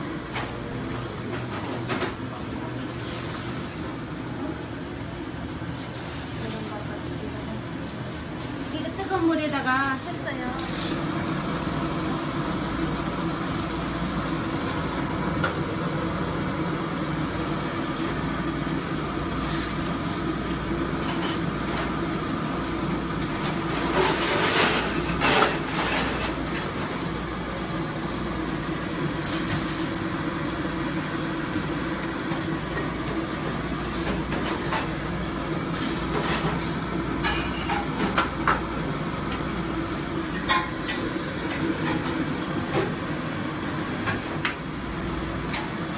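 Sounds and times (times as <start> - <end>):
gas burners roaring: 0.0 - 45.9.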